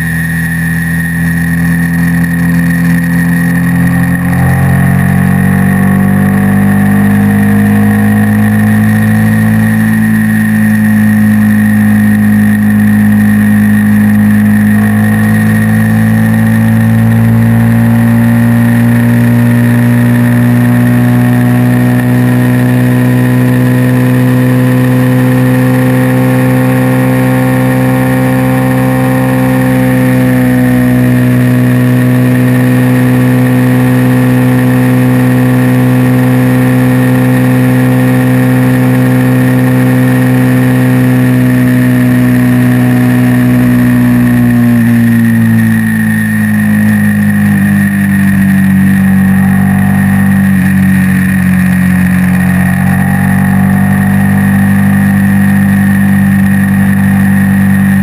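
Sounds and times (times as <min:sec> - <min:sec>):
high-pitched whine: 0:00.0 - 0:58.0
motorcycle engine cruising: 0:00.0 - 0:58.0.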